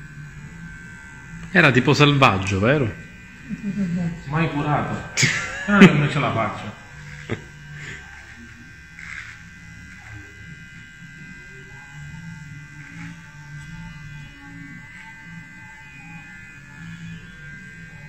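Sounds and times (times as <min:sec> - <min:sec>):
electric beard trimmer buzzing: 0:00.0 - 0:18.0.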